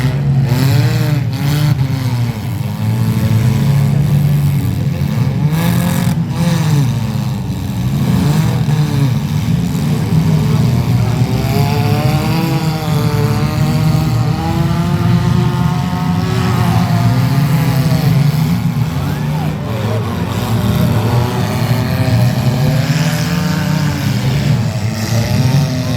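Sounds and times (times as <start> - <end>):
car engines revving: 0.0 - 25.9.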